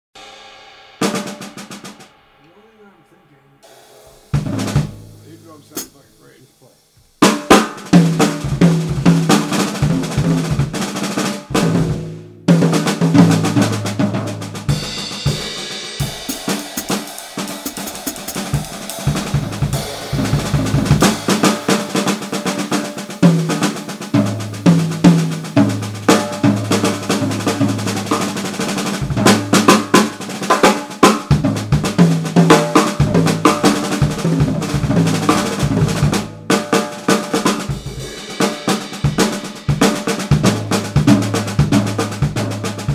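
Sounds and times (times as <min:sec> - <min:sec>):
drum kit playing: 0:00.1 - 0:42.9.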